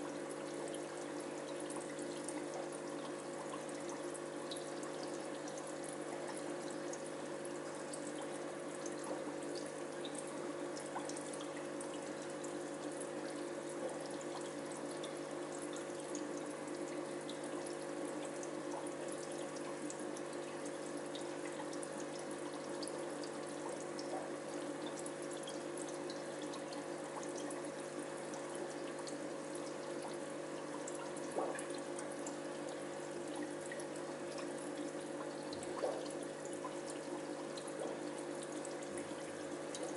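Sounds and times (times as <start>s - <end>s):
aquarium water trickling: 0.0s - 39.9s
water drips: 0.0s - 39.9s.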